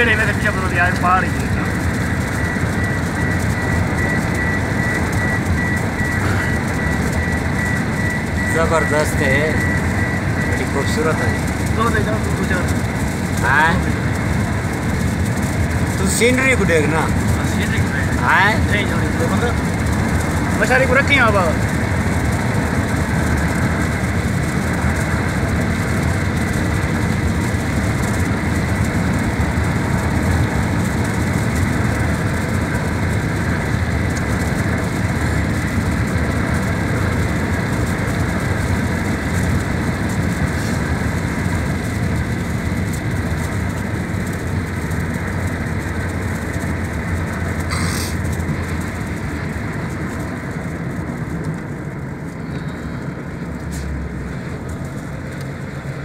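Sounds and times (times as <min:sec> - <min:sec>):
vehicle engine and tyre noise: 0:00.0 - 0:56.0.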